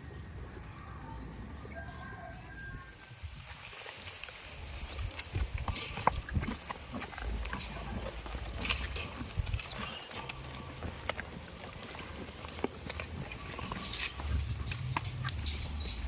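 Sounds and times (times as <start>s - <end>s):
goats moving and feeding: 0.0s - 16.0s.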